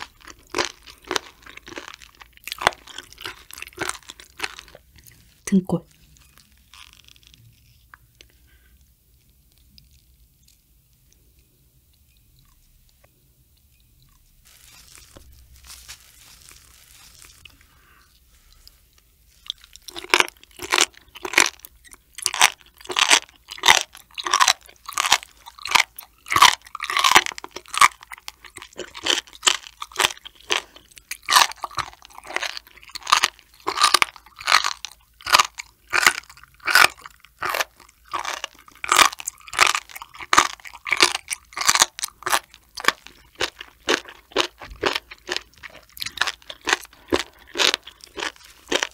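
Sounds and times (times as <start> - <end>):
close chewing: 0.0 - 5.3, 14.0 - 48.9.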